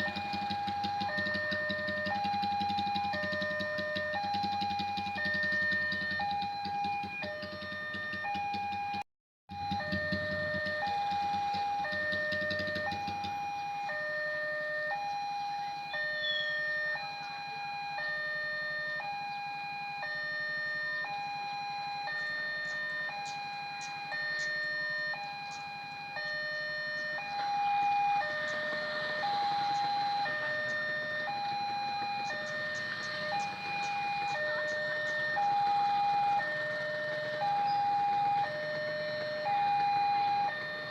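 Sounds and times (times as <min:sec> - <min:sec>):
level crossing warning alarm: 0:00.0 - 0:40.9
low engine rumble: 0:00.0 - 0:40.9.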